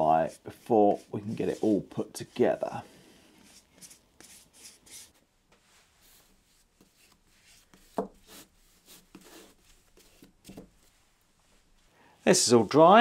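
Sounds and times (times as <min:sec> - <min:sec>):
brush swishing over wood: 0:00.0 - 0:13.0.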